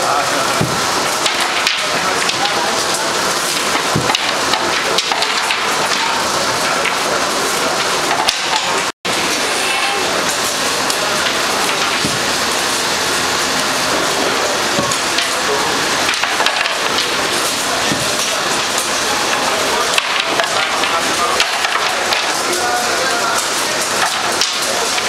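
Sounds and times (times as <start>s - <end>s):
loud steady noise: 0.0s - 25.0s.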